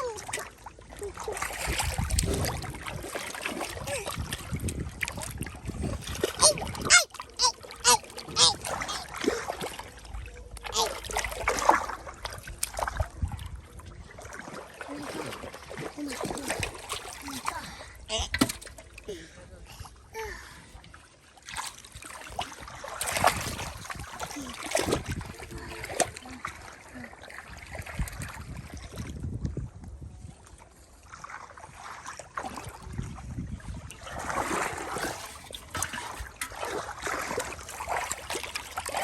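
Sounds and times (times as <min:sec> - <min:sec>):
muddy water sloshing and splashing: 0:00.0 - 0:39.0.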